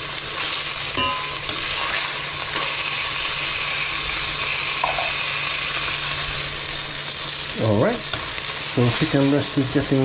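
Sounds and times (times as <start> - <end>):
chicken sizzling in frying pan: 0.0 - 10.0.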